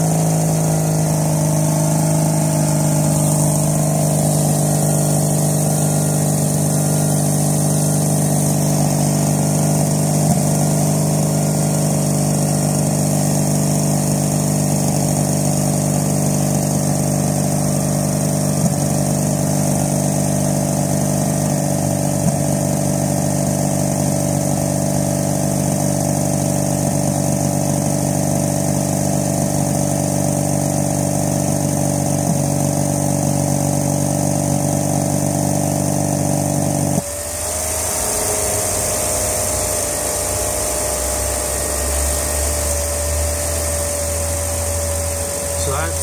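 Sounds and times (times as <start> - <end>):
engine idling with thin whine: 0.0 - 46.0
rotary engine droning: 0.0 - 46.0.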